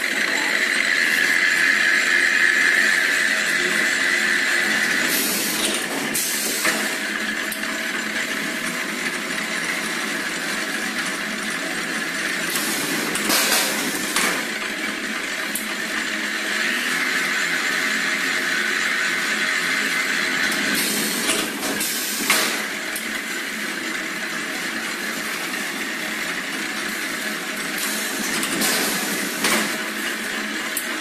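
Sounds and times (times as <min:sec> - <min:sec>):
machine running: 0:00.0 - 0:31.0.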